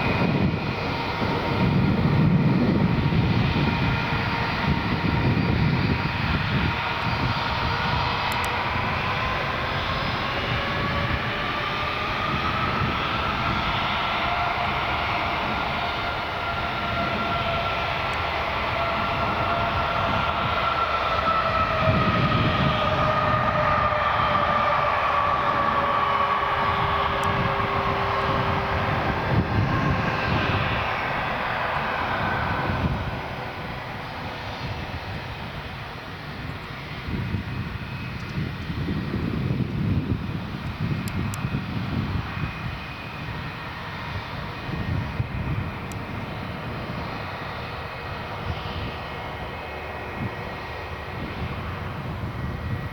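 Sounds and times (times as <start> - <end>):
jet engines rushing and whining: 0.0 - 52.9.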